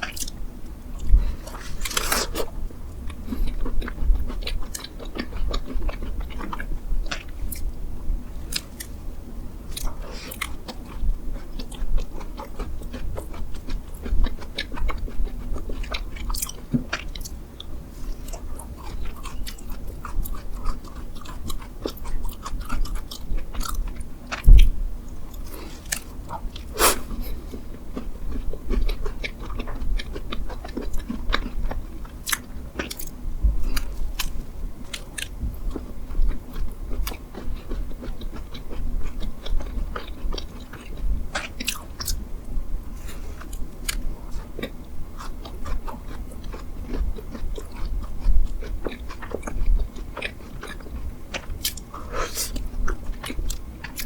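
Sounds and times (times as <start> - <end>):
biting and chewing bread: 0.0 - 9.0, 9.7 - 54.0.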